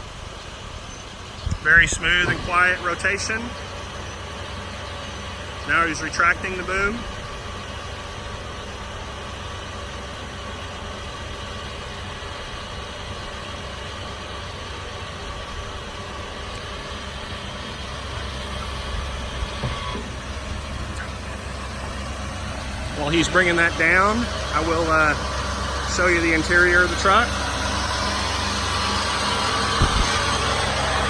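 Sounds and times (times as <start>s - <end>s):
diesel engine idling: 0.0s - 31.0s
hydraulic whine: 0.0s - 31.0s.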